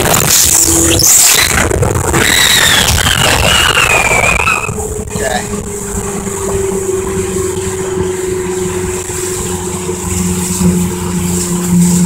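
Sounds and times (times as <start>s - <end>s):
outboard motor running: 0.0s - 12.0s
wind and water rushing: 0.0s - 12.0s.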